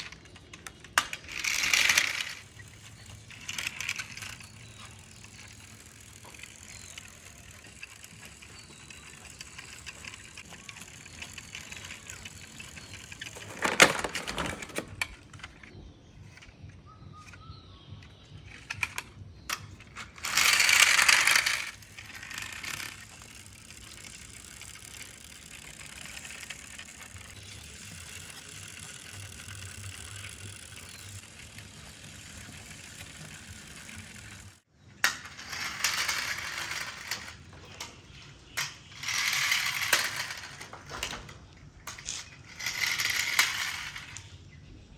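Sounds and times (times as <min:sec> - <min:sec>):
plastic toys rattling and clicking: 0:00.0 - 0:44.4.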